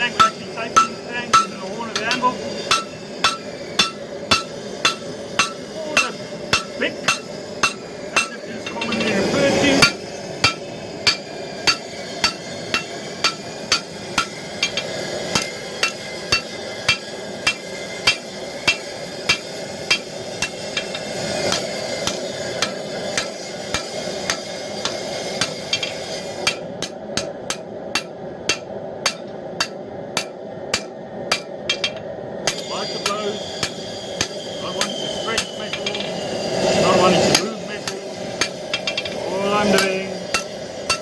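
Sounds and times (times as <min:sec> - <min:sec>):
hammer striking hot steel on anvil: 0:00.0 - 0:41.0
steady background hiss: 0:00.0 - 0:41.0.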